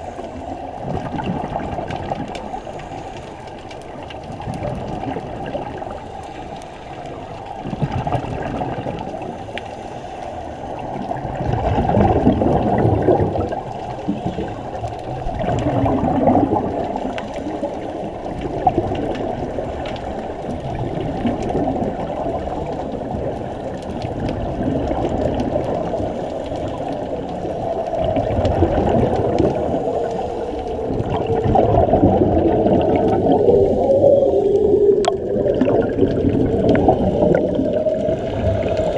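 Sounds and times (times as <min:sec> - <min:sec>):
regulator bubbles gurgling underwater: 0:00.0 - 0:38.9.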